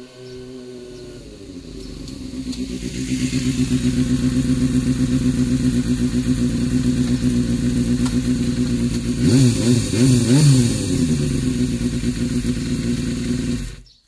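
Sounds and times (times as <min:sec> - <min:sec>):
motorcycle engine pulsing: 0:00.0 - 0:14.0.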